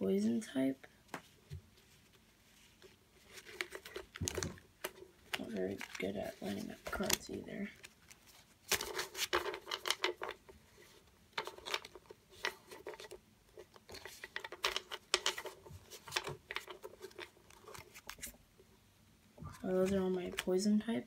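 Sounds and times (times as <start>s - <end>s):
trading cards being shuffled: 1.1s - 10.5s, 11.4s - 18.4s, 19.5s - 20.6s.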